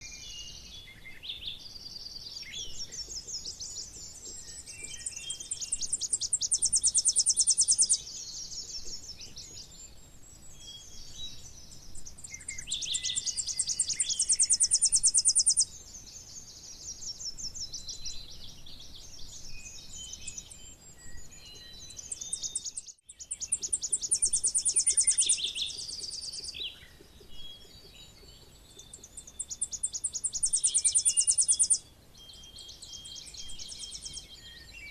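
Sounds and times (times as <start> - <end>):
bird song with fast trill: 0.0 - 34.9
faint bird chirps: 0.0 - 34.9.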